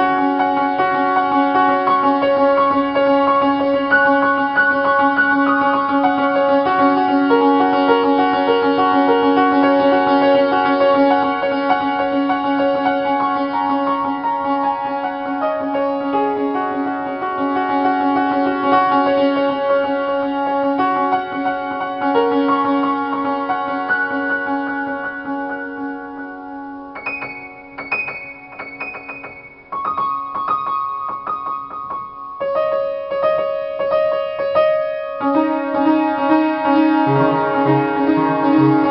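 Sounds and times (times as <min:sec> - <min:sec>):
upright piano improvisation: 0:00.0 - 0:38.9.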